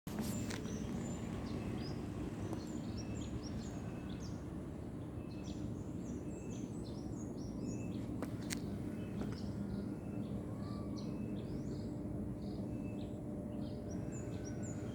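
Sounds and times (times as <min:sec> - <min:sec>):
small birds chirping: 0:00.2 - 0:14.9.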